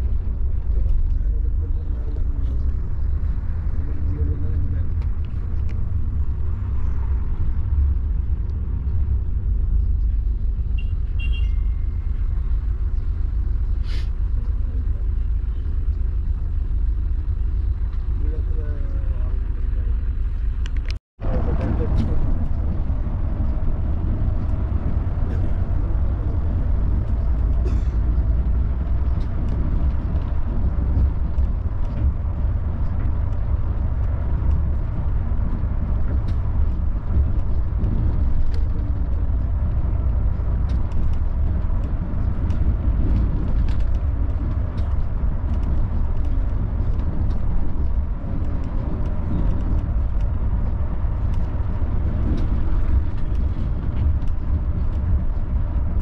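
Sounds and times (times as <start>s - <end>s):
light rattles and clicks: 0.0s - 10.8s, 12.5s - 56.0s
bus engine and tyres rumbling: 0.0s - 56.0s.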